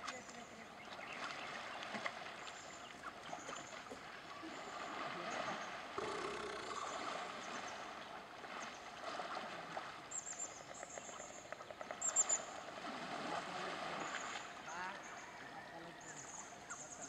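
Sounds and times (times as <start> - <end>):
water lapping and splashing: 0.0 - 17.0.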